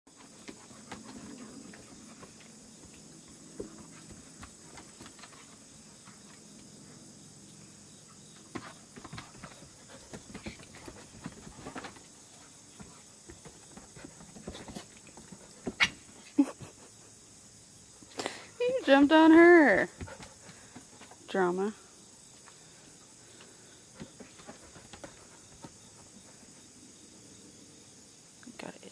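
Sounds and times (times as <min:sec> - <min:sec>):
animals scuffling: 0:00.1 - 0:16.7, 0:18.6 - 0:26.8.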